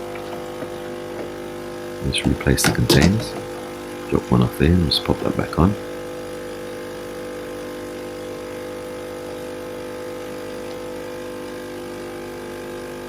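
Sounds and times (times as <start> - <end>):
coffee machine pump humming: 0.0 - 13.0.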